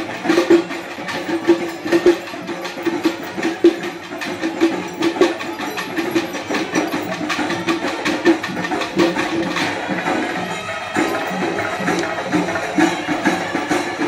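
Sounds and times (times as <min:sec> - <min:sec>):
drums in fast rhythm: 0:00.0 - 0:14.0.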